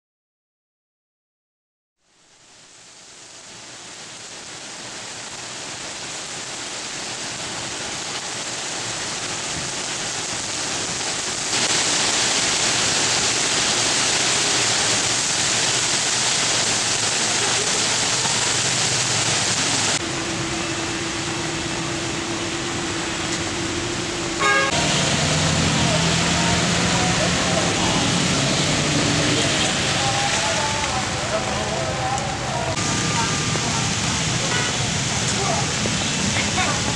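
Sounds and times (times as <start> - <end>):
heavy rain pouring: 2.0 - 36.9.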